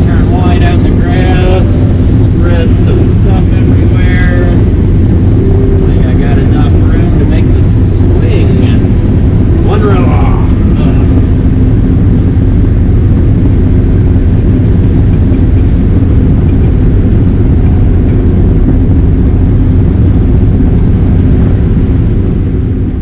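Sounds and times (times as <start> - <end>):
combine engine and threshing drone: 0.0 - 23.0.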